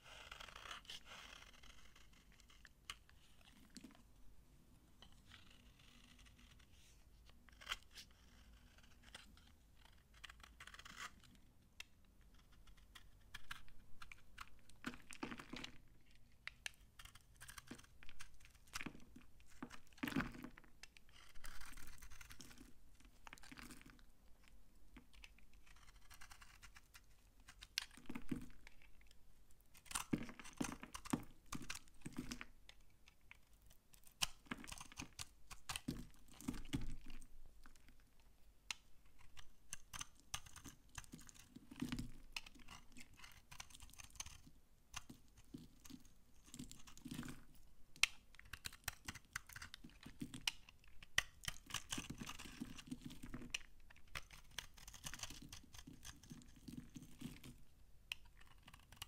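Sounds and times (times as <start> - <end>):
knife shaving dry soap: 0.0 - 4.0, 5.0 - 59.0.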